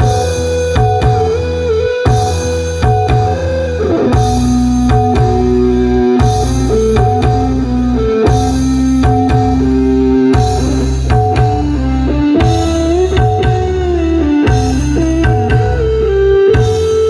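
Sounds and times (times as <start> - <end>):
rock music with guitar and drums: 0.0 - 17.0.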